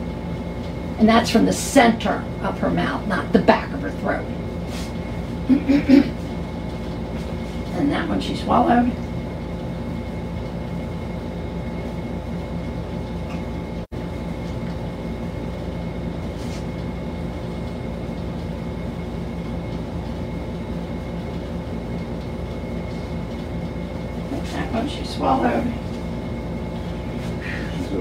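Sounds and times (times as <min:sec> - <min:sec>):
machine-like hum: 0:00.0 - 0:28.0.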